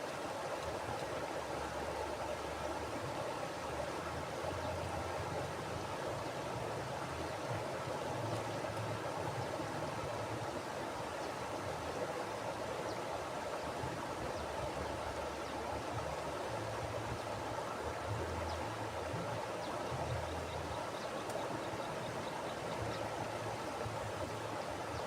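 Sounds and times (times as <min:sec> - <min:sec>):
low water rumble: 0:00.0 - 0:25.0
river water rushing: 0:00.0 - 0:25.0.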